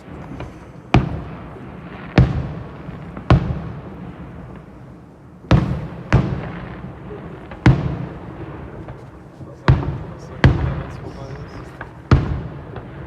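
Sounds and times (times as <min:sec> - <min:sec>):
fireworks bursting with echo: 0:00.0 - 0:13.0.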